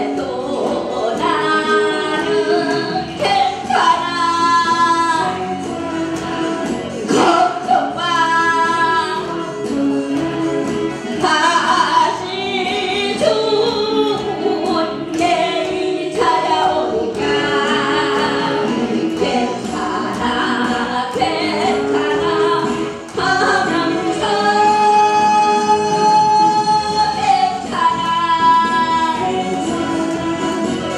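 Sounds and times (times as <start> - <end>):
recorded backing track: 0.0 - 30.9
woman singing into a microphone: 0.0 - 30.9.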